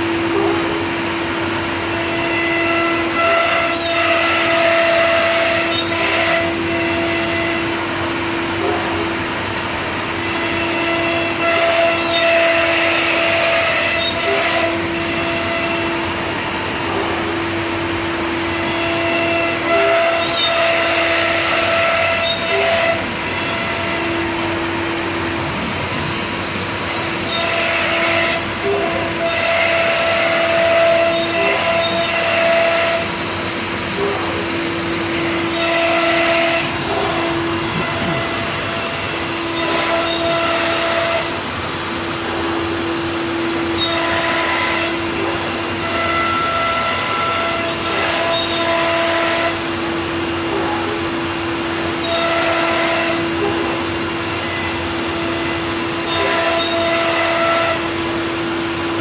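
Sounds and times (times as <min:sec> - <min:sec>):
router spindle whine: 0:00.0 - 0:59.0.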